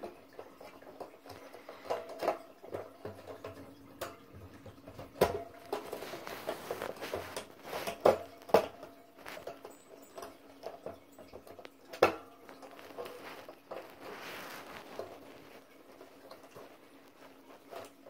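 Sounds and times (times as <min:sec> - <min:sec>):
clicks and patter on plastic: 0:00.0 - 0:18.0.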